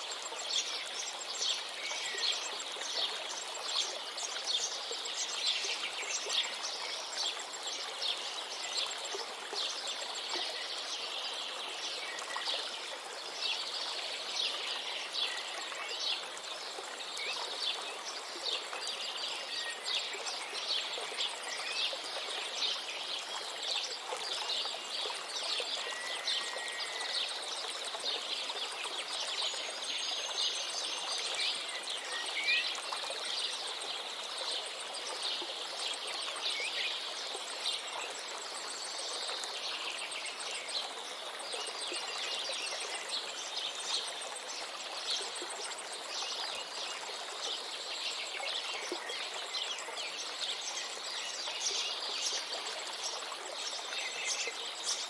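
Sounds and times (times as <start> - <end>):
river flowing: 0.0 - 55.0.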